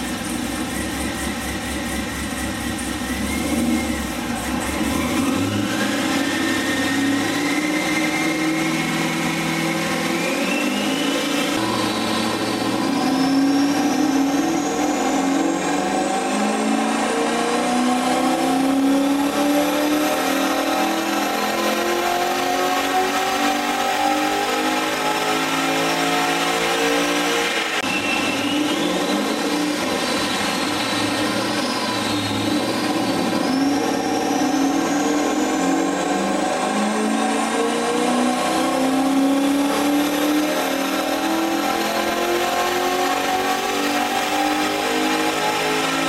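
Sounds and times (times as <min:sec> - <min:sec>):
car engine revving under load: 0:00.0 - 0:46.0.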